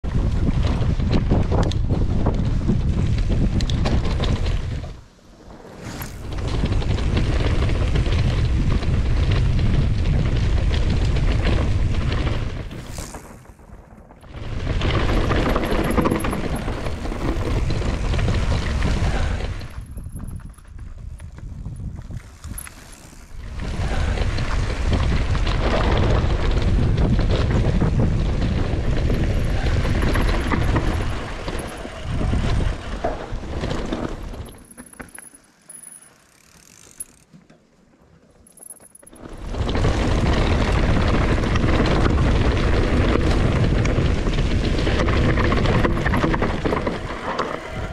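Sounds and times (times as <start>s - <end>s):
wind buffeting microphone: 0.0s - 34.6s, 39.1s - 47.9s
bike tyre noise and rattle: 0.0s - 47.9s.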